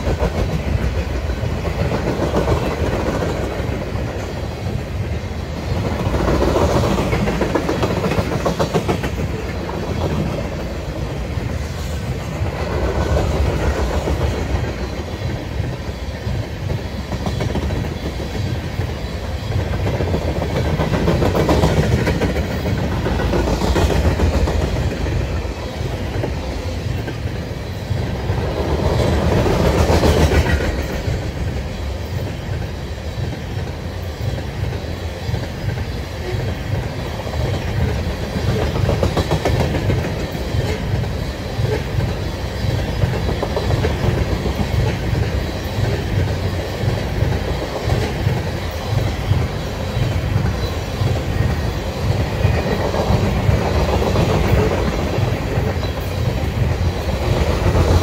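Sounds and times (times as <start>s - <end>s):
clickety-clack over rail joints: 0.0s - 58.0s
train wheel rumble: 0.0s - 58.0s.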